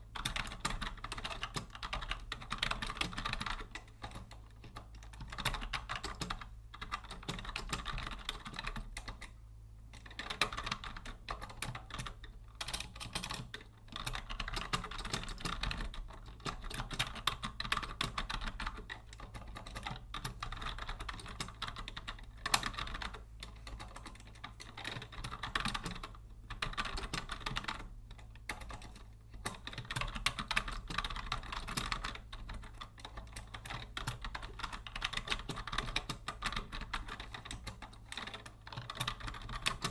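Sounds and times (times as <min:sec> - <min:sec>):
keyboard typing clicks: 0:00.2 - 0:39.9.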